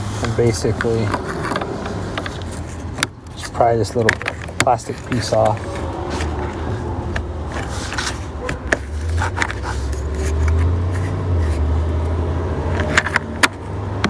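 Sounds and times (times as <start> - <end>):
plastic trim clicks and scrapes: 0.2 - 14.0.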